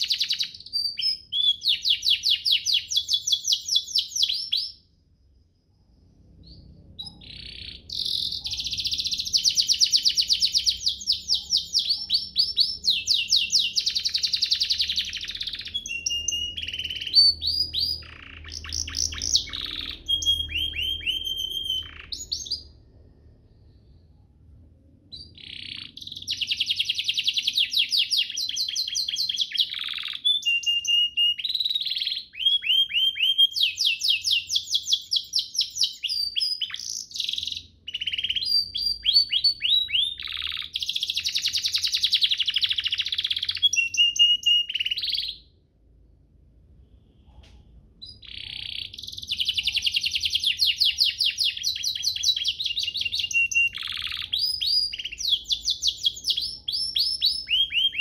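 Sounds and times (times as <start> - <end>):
canary singing trills: 0.0 - 4.9, 6.3 - 22.9, 25.1 - 45.5, 48.0 - 58.0.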